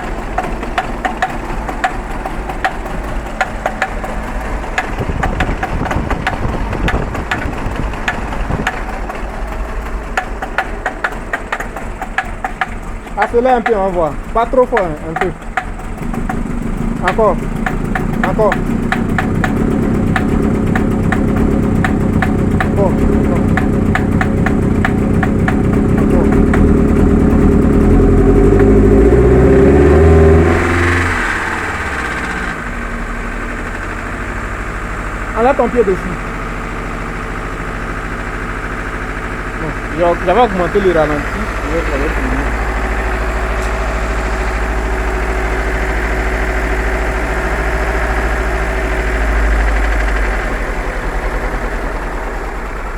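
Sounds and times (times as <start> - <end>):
car engine idling: 0.0 - 52.9
sharp engine ticks: 0.0 - 52.9.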